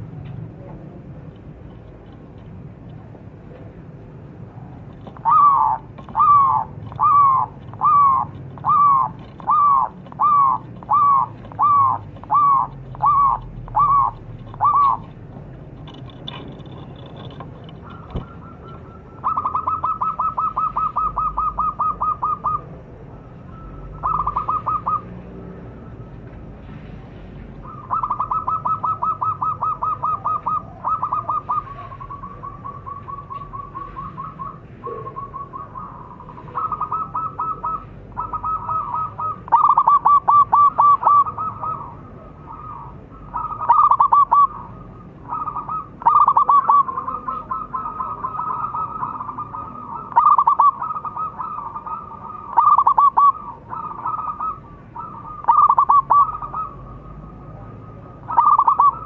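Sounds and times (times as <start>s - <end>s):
dove cooing: 4.2s - 26.1s, 27.6s - 59.0s.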